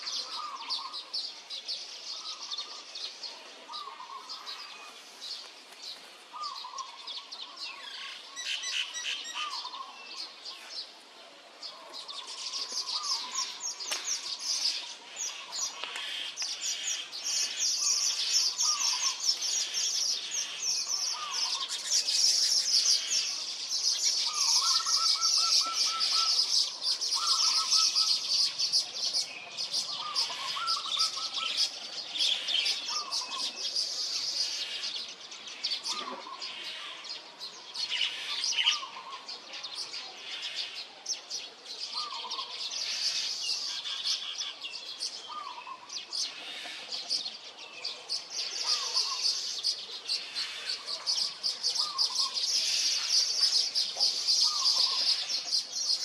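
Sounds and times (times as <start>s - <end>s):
small birds twittering: 0.0s - 56.0s.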